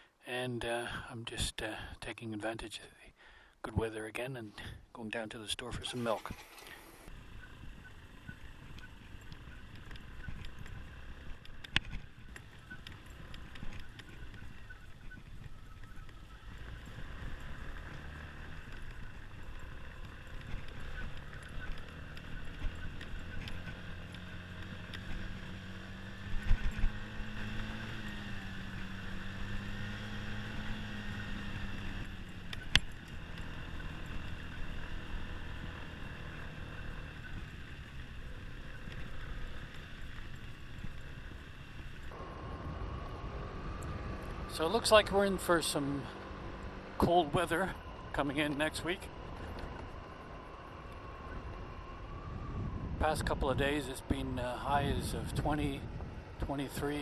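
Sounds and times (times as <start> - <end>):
scooter engine running: 6.0 - 57.0.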